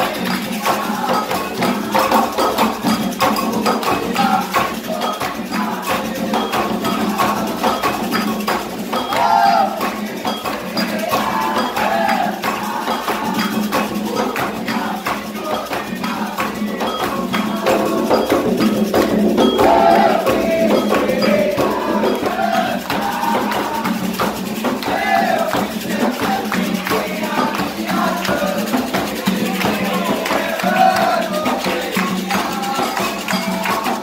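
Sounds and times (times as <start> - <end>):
group singing a chant: 0.0 - 34.0
hand clapping: 0.0 - 34.0
percussion beat: 0.0 - 34.0.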